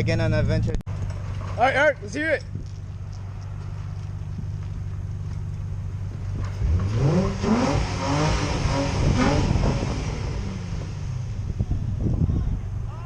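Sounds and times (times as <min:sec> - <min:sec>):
car engine idling and revving: 0:00.0 - 0:01.6, 0:02.5 - 0:13.0.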